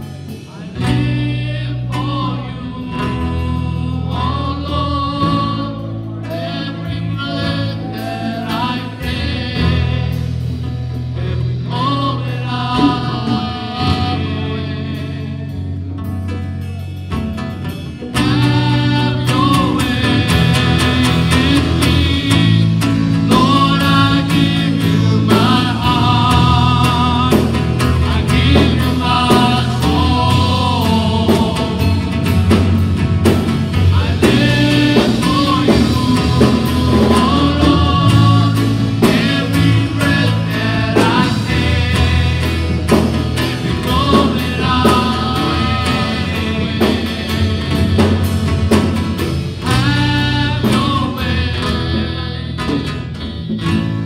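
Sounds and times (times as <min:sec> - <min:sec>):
person singing gospel song: 0:00.0 - 0:16.1, 0:17.9 - 0:54.0
band playing held chords: 0:00.0 - 0:54.0.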